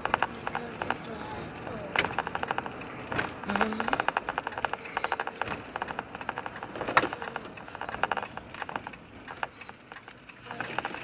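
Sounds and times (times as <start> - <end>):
rapid clicking and light rattling: 0.0 - 11.0.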